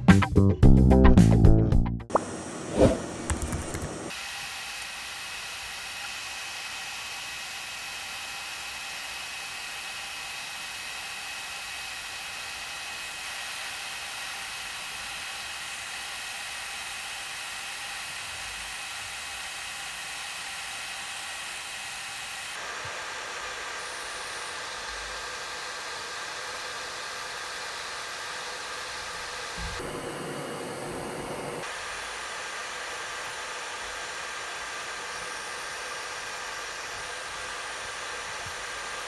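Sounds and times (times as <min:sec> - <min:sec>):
electric nail drill grinding: 0:02.4 - 0:39.0.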